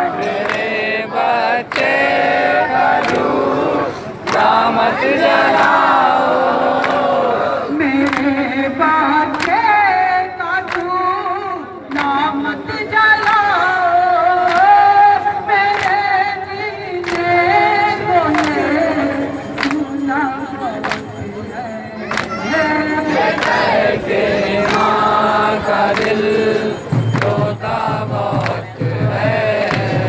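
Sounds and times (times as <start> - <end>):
men singing a lament: 0.0 - 10.4, 11.9 - 30.0.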